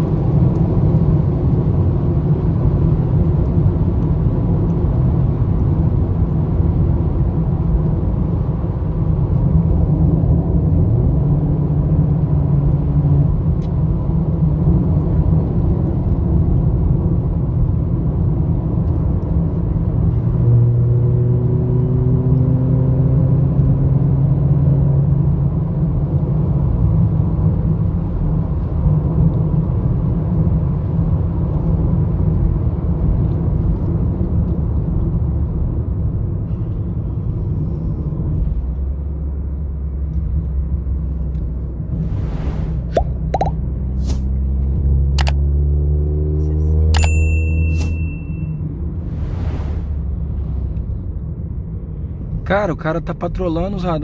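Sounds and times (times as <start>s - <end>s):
car engine drone in cabin: 0.0s - 54.0s
road noise: 0.0s - 54.0s.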